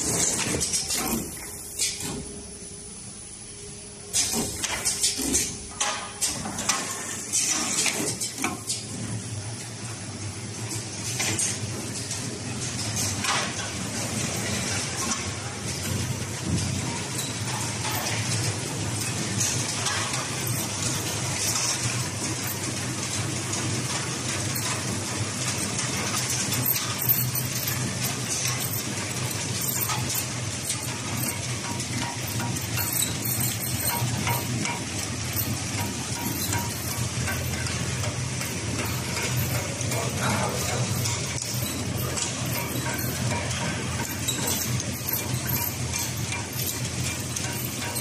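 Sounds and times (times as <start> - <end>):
packing machine whirring: 0.0 - 48.0.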